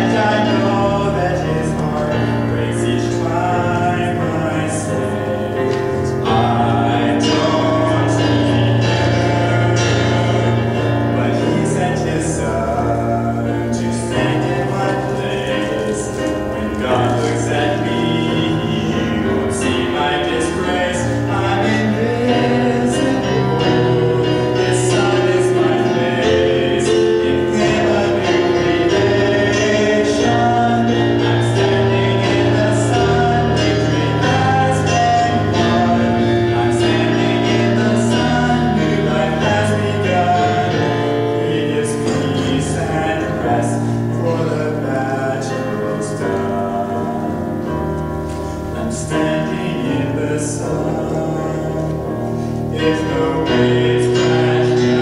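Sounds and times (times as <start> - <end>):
man singing into microphone: 0.0 - 48.0, 48.6 - 55.0
instrumental accompaniment with bass: 0.0 - 55.0.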